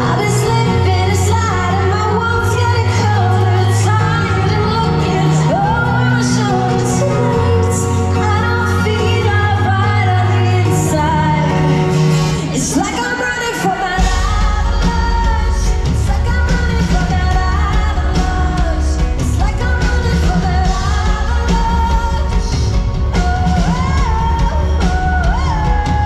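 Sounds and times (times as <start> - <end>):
live pop-punk band: 0.0 - 26.0
woman singing: 0.0 - 26.0.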